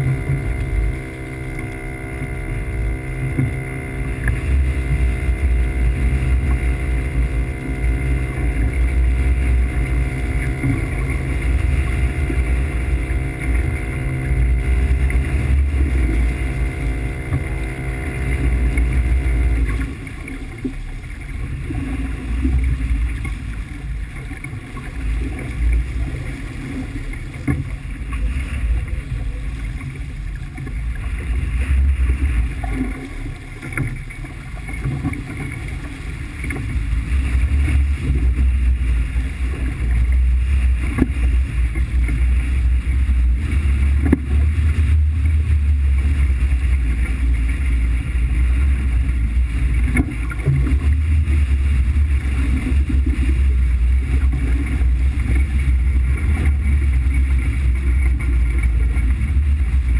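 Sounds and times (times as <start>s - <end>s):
engine low rumble: 0.0s - 59.9s
steady tones: 0.0s - 59.9s.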